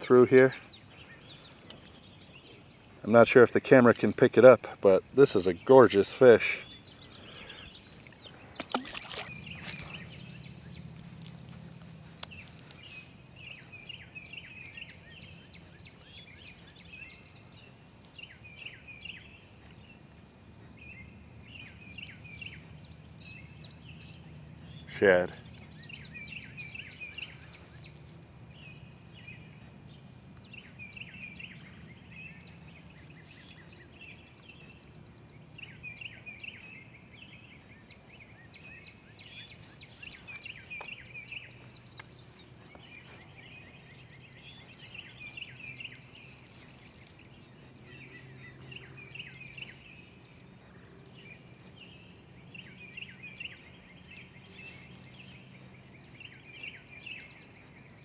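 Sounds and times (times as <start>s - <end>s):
songbirds chirping: 0.0s - 58.0s
low background rumble: 6.7s - 56.4s.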